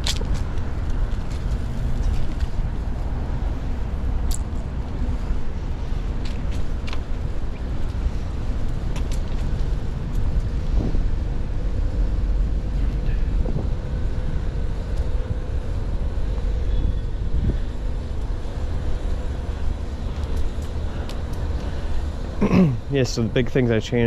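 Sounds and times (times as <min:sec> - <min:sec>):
wind buffeting microphone: 0:00.0 - 0:22.4
road traffic rumble: 0:00.0 - 0:24.0.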